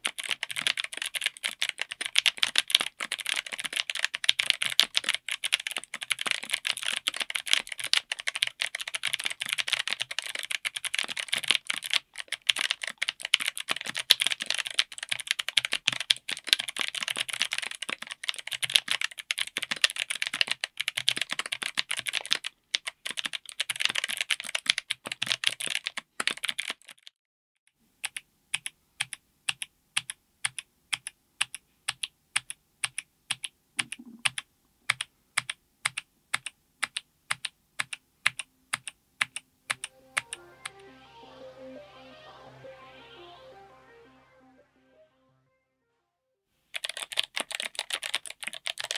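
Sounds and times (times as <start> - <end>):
clicky mechanical keyboard typing: 0.0 - 27.1, 28.0 - 40.4, 46.7 - 48.9.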